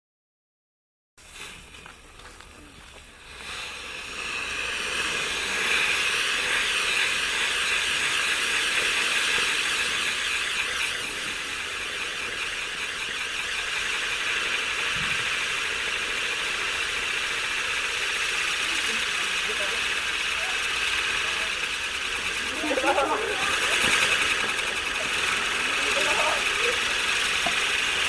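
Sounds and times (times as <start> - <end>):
firework wheel hissing: 1.2 - 28.0.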